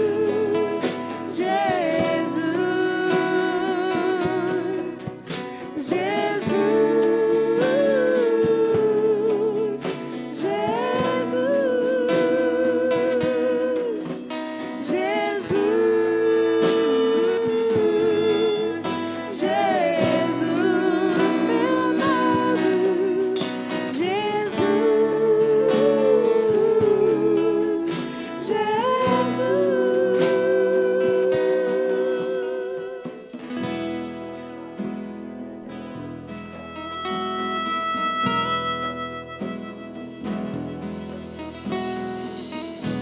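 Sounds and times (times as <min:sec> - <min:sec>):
person singing with vibrato: 0:00.0 - 0:34.9, 0:35.7 - 0:43.0
acoustic guitar chords: 0:00.0 - 0:43.0.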